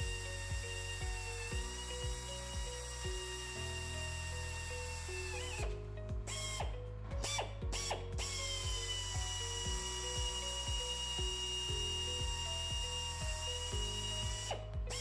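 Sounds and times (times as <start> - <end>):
electric drill whining: 0.0 - 15.0.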